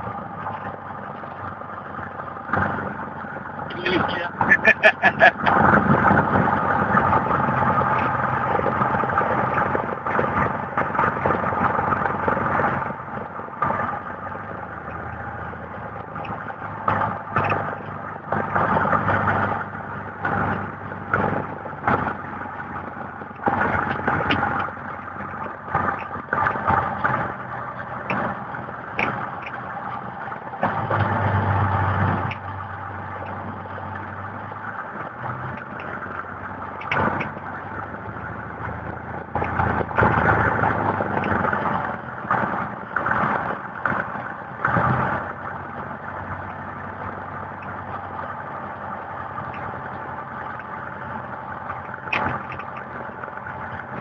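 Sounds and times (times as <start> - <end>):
car engine running: 0.0 - 54.0
knocks and rattles over bumps: 0.0 - 54.0.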